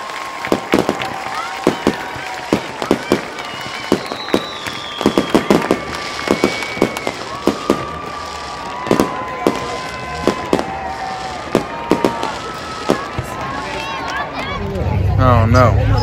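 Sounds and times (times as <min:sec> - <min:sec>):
long steady whistle tones: 0:00.0 - 0:14.1
firecracker pops: 0:00.4 - 0:14.5.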